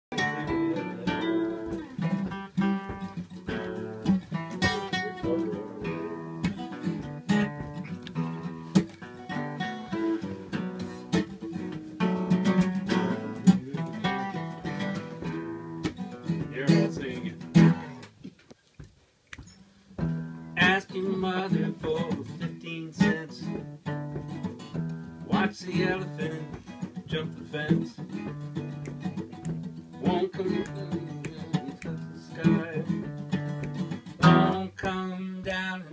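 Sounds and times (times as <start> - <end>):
acoustic guitar playing: 0.0 - 18.2, 19.5 - 35.9.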